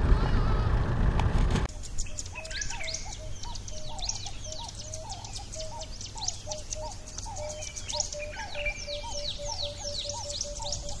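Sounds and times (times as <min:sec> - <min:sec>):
repeated low bird call: 0:01.7 - 0:11.0
high bird chirps and whistles: 0:01.8 - 0:11.0.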